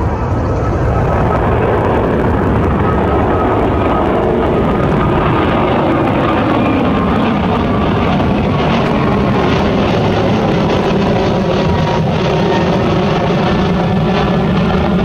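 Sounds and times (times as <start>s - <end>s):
faint high whine: 0.0s - 15.0s
jet engine roar: 0.0s - 15.0s.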